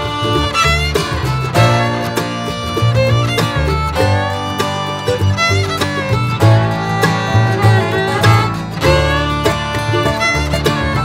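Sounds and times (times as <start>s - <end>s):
low bass line: 0.0s - 11.0s
sustained string notes: 0.0s - 11.0s.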